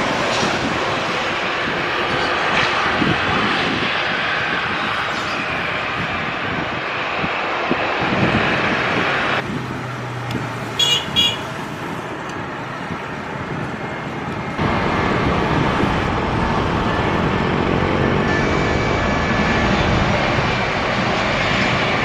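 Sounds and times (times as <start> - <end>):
aircraft noise: 0.0 - 22.0
traffic noise: 0.0 - 22.0.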